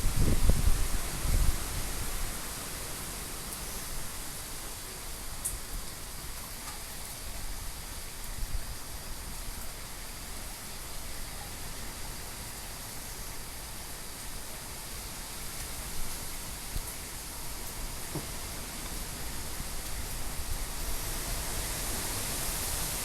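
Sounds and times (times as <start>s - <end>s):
storm wind and rain: 0.0s - 23.0s.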